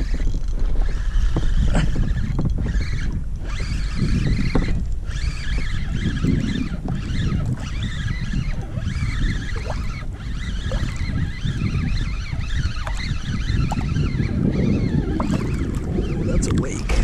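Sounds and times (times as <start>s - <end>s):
water moving around kayak: 0.0s - 17.0s
wind rumbling on microphone: 0.0s - 17.0s.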